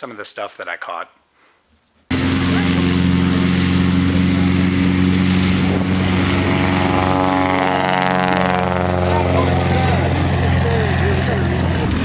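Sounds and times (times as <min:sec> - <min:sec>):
light aircraft engine and propeller: 0:02.1 - 0:12.0
second engine rising in pitch: 0:02.1 - 0:12.0.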